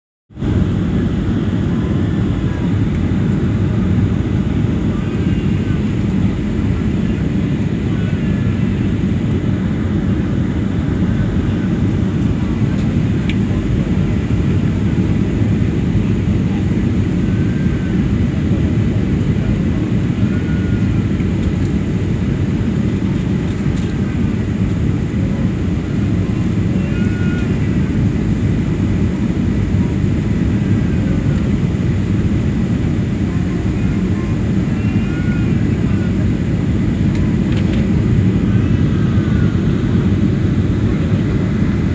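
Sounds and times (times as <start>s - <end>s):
airliner cabin rumble: 0.3s - 41.9s.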